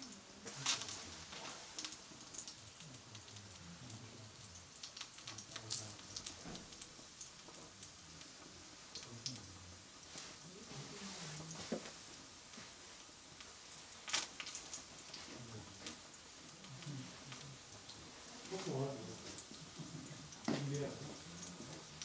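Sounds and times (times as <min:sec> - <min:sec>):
small fire crackling and popping: 0:00.0 - 0:22.0.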